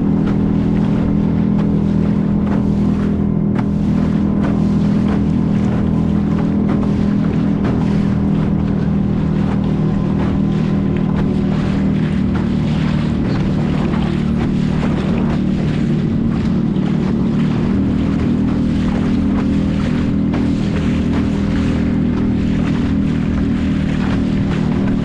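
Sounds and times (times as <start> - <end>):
boat engine droning: 0.0 - 25.0
water splashing against hull: 0.0 - 25.0.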